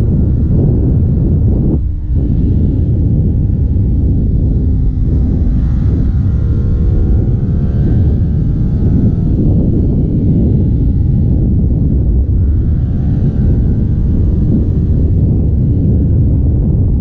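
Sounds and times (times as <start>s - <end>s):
motorcycle engine revving: 0.0s - 17.0s
wind rumble on microphone: 0.0s - 17.0s.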